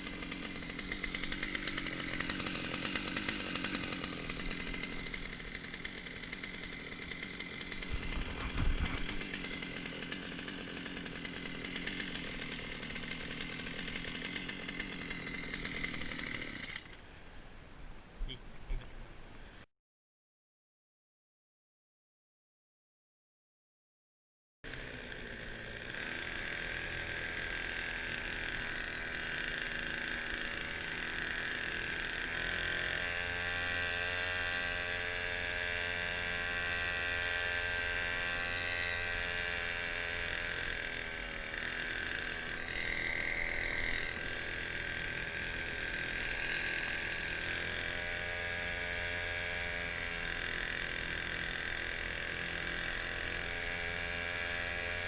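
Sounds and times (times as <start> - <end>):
small motor whining: 0.0 - 17.2, 24.7 - 55.0.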